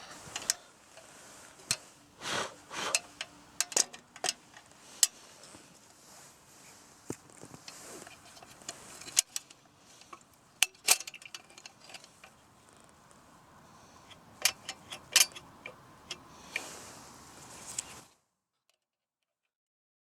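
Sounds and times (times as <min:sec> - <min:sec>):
soft rustle: 0:00.0 - 0:18.2.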